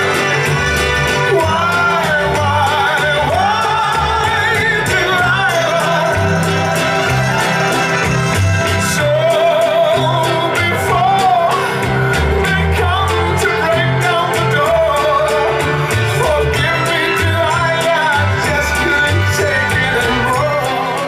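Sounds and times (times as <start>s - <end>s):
song with singing guitar and bass: 0.0s - 21.0s.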